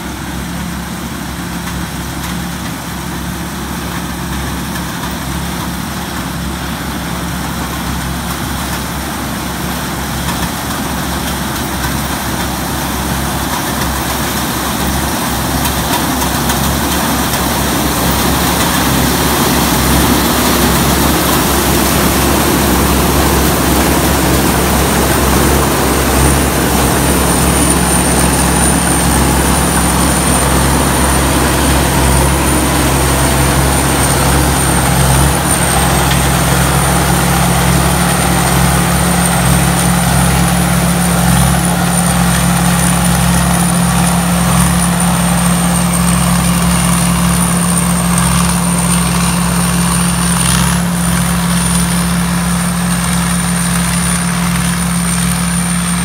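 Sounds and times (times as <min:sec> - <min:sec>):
combine harvester diesel engine: 0:00.0 - 0:56.0
high whine: 0:10.2 - 0:56.0.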